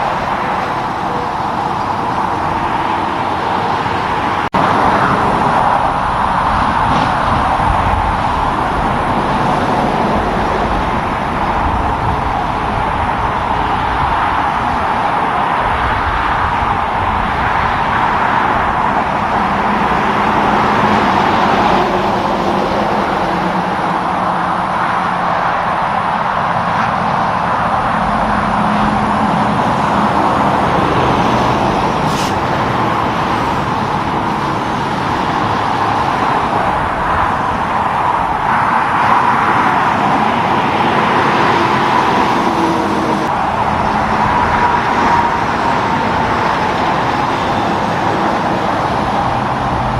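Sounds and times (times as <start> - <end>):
heavy vehicle engine hum: 0.0 - 49.9
passing vehicles: 0.0 - 49.9.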